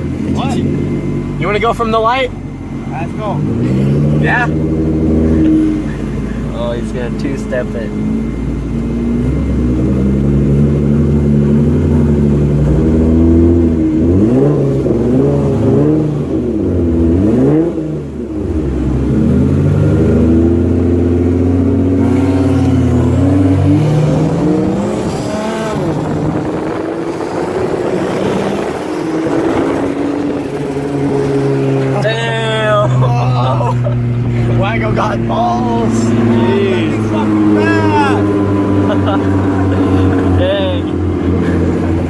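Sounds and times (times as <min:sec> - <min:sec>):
car engine accelerating hard: 0:00.0 - 0:42.0.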